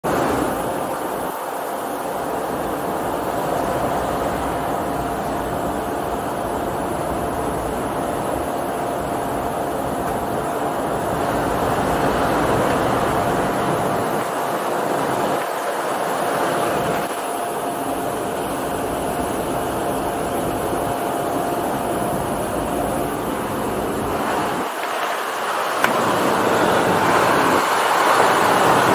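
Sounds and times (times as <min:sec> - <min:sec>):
airplane engine drone: 0:00.0 - 0:28.9
constant high whine: 0:00.0 - 0:28.9
rushing air: 0:00.0 - 0:28.9.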